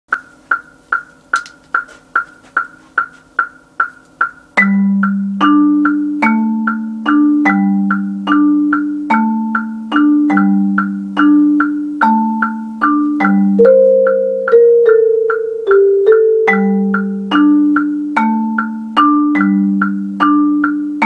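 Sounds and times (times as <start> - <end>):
metronome clicking: 0.1 - 21.0
marimba chords: 0.2 - 21.0.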